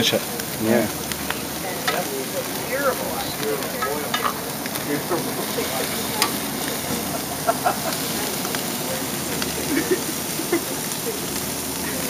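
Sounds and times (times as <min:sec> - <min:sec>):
chicken sizzling on grill: 0:00.0 - 0:12.0.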